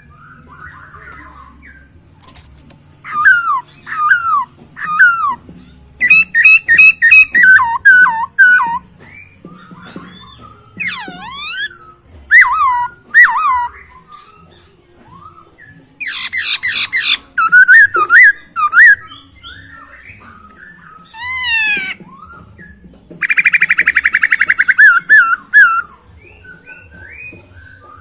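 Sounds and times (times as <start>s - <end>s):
bird singing trills and whistles: 0.0s - 2.4s, 3.0s - 28.0s.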